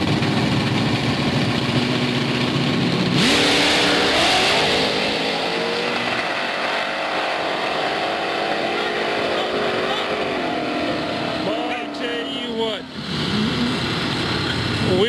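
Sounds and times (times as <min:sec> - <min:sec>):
drag car engine revving: 0:00.0 - 0:15.0.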